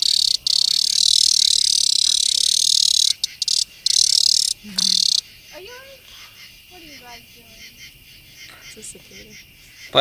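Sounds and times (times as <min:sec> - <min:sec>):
cicada buzzing: 0:00.0 - 0:10.0.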